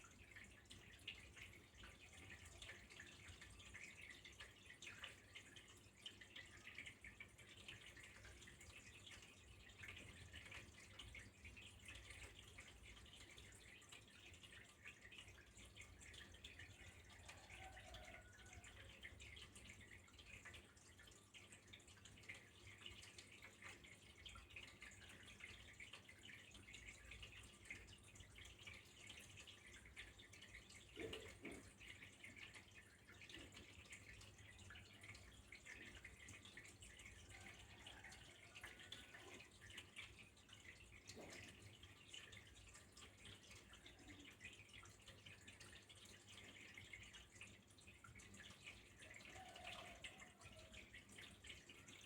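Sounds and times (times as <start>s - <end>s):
water trickling and dripping: 0.0s - 52.0s.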